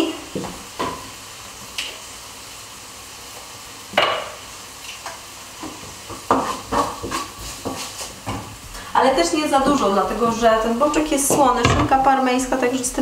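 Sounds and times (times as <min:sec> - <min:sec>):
bacon sizzling in a frying pan: 0:00.0 - 0:13.0.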